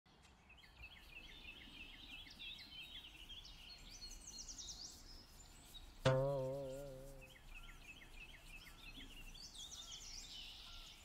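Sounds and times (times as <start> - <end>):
bird chirping: 0.1 - 11.0.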